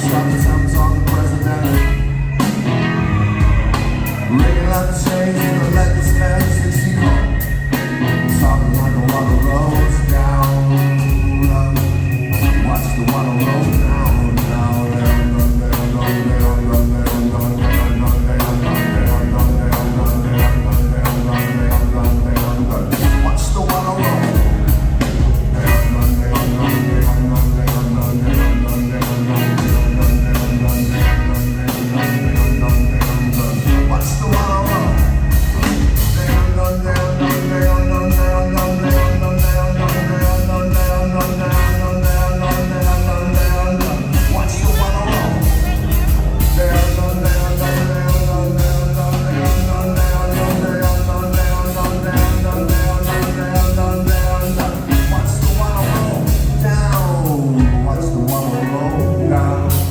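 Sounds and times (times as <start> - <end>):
drums beat: 0.0 - 59.9
heavy bass line: 0.0 - 59.9
live rock band playing: 0.0 - 59.9.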